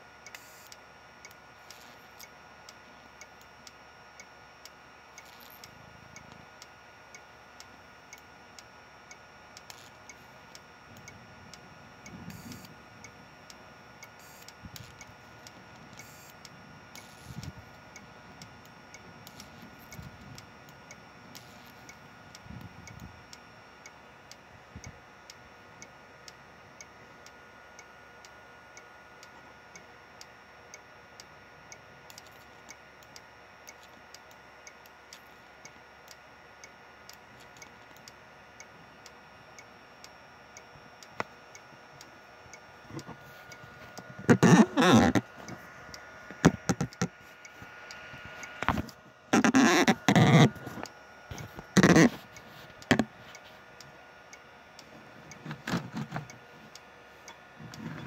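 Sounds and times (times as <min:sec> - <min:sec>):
faint high whine: 0:00.0 - 0:58.0.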